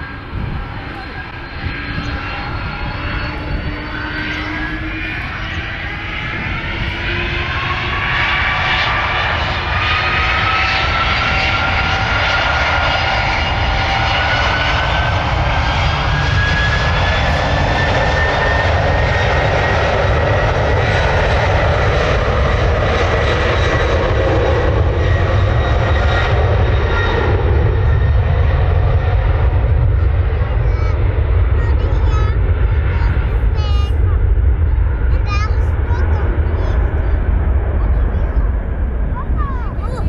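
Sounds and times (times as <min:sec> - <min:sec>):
jet engines spooling up: 0:00.0 - 0:40.0.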